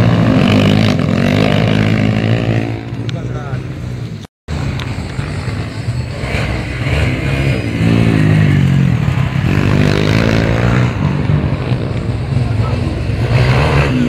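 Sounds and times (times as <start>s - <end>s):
motorbike engine revving: 0.0s - 3.6s, 4.6s - 14.0s.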